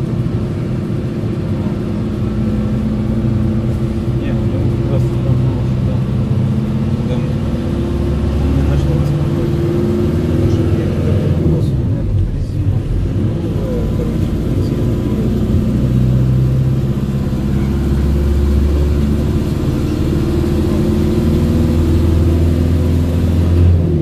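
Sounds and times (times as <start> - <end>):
car engine running: 0.0 - 24.0
road noise: 0.0 - 24.0.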